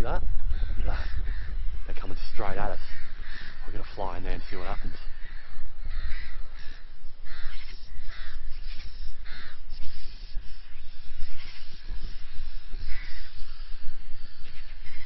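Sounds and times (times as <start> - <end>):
bird cawing: 0.0 - 15.0
steady low rumble: 0.0 - 15.0.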